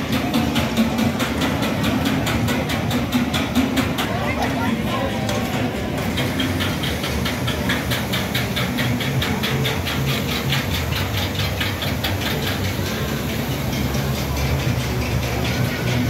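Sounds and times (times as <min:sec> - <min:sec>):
ride machinery clacking: 0:00.0 - 0:16.0.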